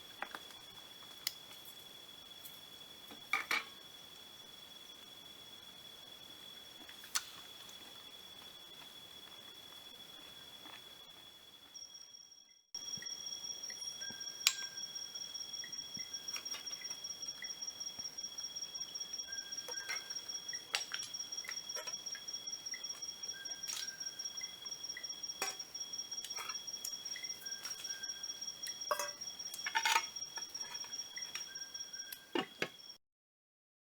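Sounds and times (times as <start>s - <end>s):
insects trilling: 0.0s - 33.0s
short repeated insect call: 0.0s - 33.0s.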